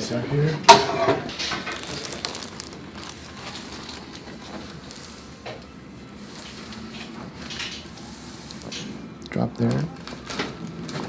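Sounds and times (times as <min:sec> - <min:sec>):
faint rustling: 0:00.8 - 0:11.0.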